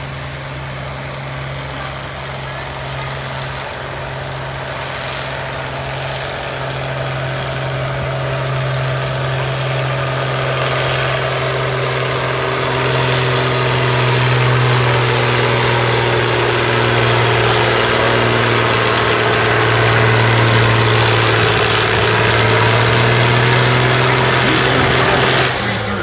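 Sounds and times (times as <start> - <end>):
tractor engine running flat out: 0.0 - 26.0.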